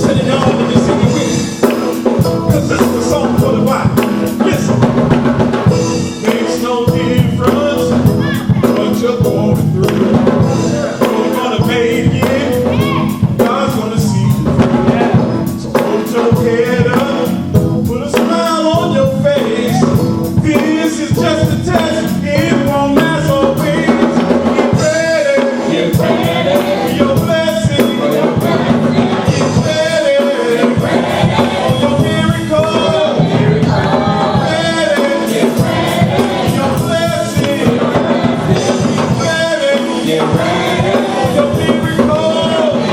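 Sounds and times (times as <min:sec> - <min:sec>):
band with drums: 0:00.0 - 0:42.9
voices singing: 0:00.0 - 0:42.9.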